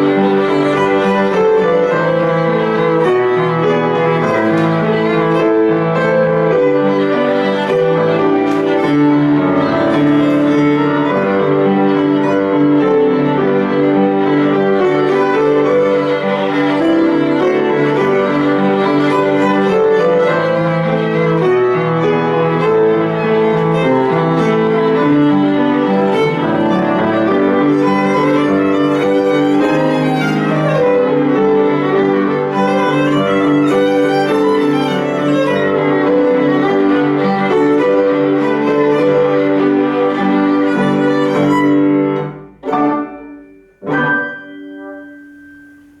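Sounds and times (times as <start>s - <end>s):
violin playing fast notes: 0.0s - 42.4s
piano accompaniment: 0.0s - 46.0s.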